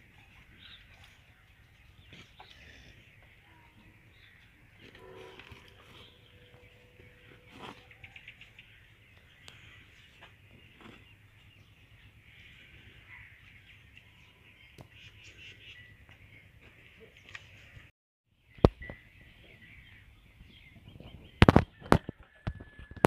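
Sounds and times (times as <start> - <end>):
birds calling and chattering: 0.0 - 23.0.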